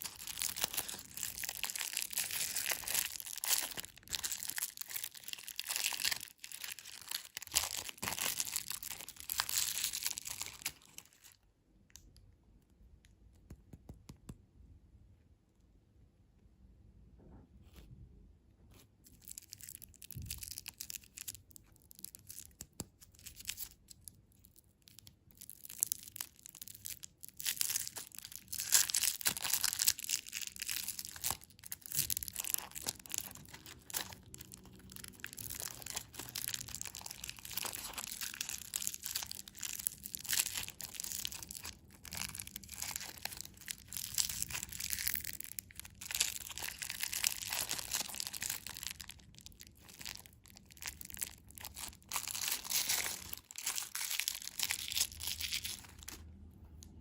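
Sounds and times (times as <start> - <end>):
candy packaging crinkling: 0.0 - 12.3, 19.0 - 57.0.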